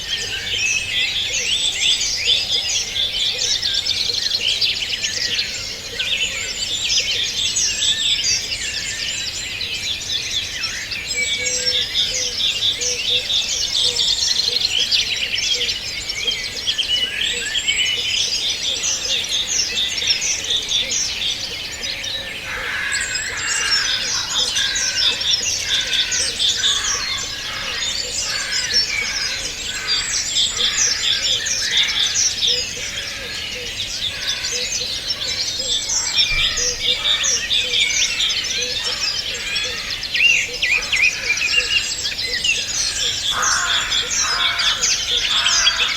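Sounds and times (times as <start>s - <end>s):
lower-pitched bird song: 0.0s - 45.9s
small birds chirping: 0.0s - 45.9s.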